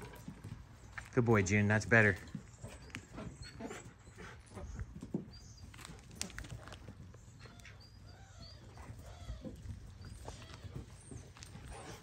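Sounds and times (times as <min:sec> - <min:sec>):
animal feet pattering: 0:00.0 - 0:12.0.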